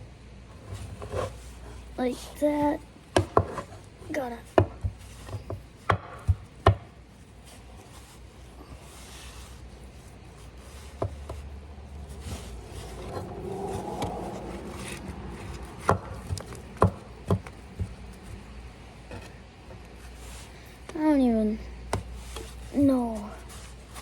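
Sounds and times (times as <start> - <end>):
scraping and rubbing: 0.5 - 24.0.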